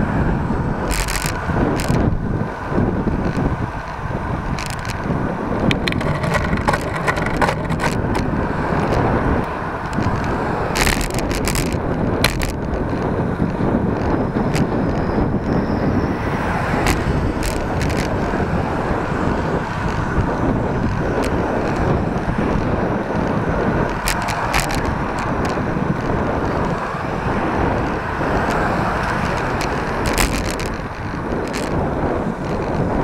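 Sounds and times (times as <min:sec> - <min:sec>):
tyre and road rumble: 0:00.0 - 0:33.0
wind rushing over microphone: 0:00.0 - 0:33.0
bicycle clicks and rattles: 0:00.8 - 0:02.2, 0:02.8 - 0:33.0.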